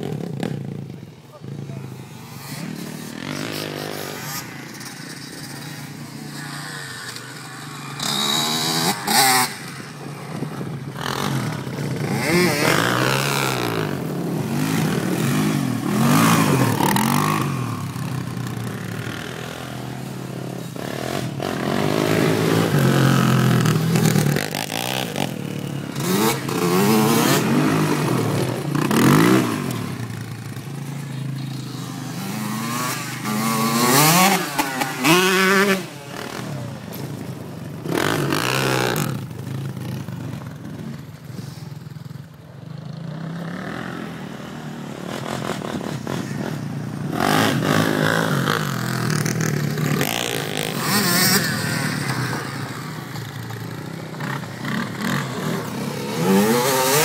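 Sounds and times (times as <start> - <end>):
quad bike engine revving: 0.0 - 40.9, 42.8 - 57.0.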